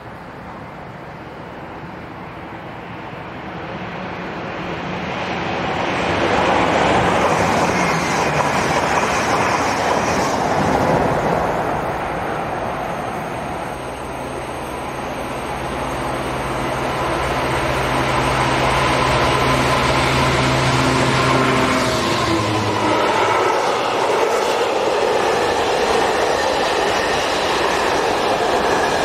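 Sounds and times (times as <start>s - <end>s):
high-speed train passing: 0.0s - 29.0s.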